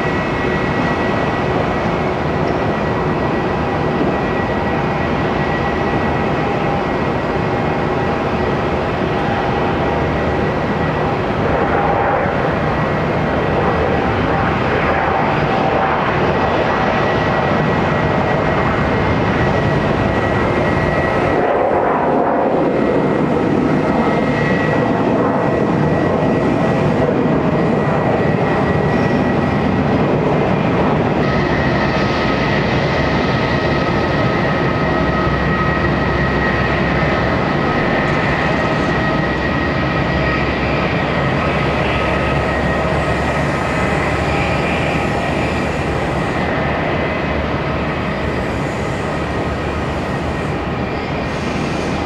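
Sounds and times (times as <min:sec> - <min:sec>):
high-pitched jet engine whine: 0:00.0 - 0:52.0
jet engine roar: 0:00.0 - 0:52.0.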